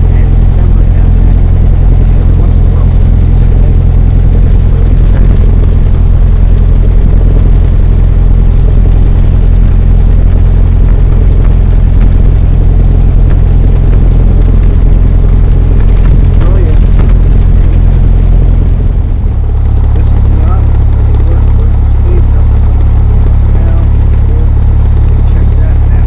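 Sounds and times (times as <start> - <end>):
propeller plane engine in cabin: 0.0 - 26.0.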